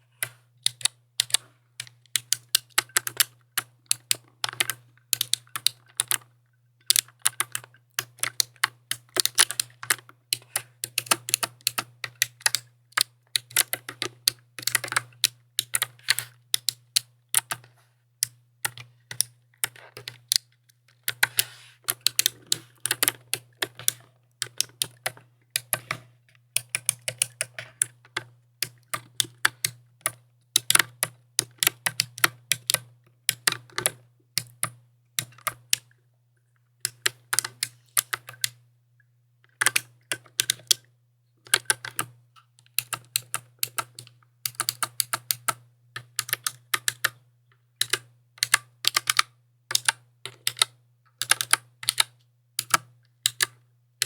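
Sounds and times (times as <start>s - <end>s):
mechanical keyboard clicks: 0.2s - 6.3s, 6.9s - 26.0s, 26.6s - 35.8s, 39.6s - 40.8s, 42.7s - 47.2s, 47.8s - 53.5s.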